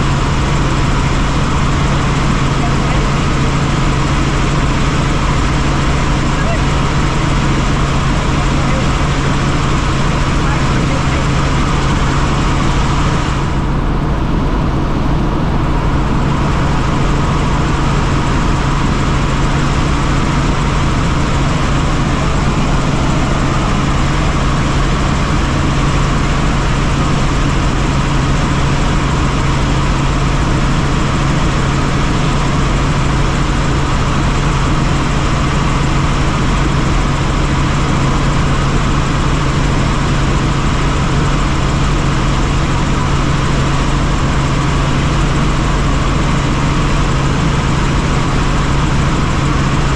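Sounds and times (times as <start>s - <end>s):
helicopter drone: 0.0s - 49.9s.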